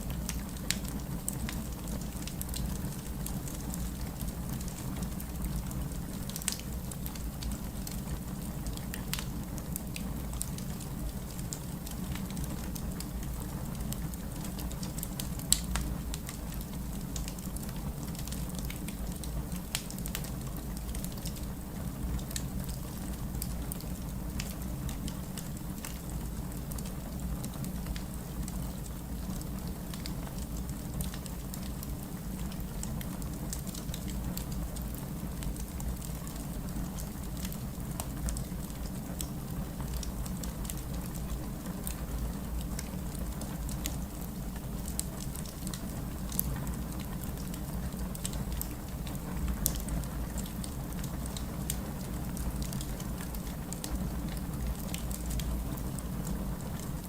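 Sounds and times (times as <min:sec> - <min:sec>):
rain rumbling: 0:00.0 - 0:57.0
wood fire crackling: 0:00.0 - 0:57.0.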